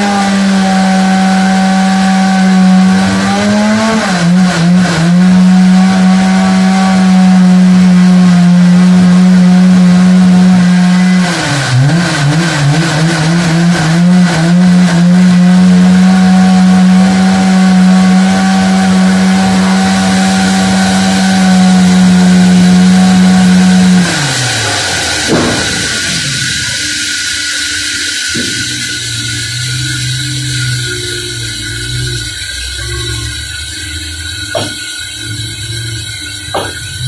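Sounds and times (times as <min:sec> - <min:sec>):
band sawmill cutting log: 0:00.0 - 0:37.0.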